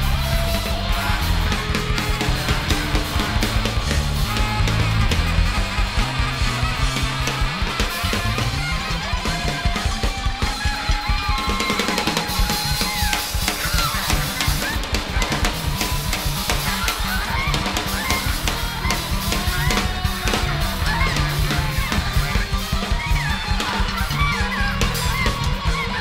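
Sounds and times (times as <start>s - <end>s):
fast drum kit: 0.0s - 26.0s
pulsing bass line: 0.0s - 26.0s.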